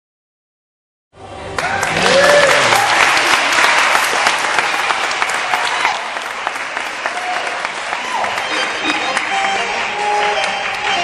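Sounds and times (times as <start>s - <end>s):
audience applauding: 1.5s - 11.0s
audience cheering: 1.6s - 11.0s.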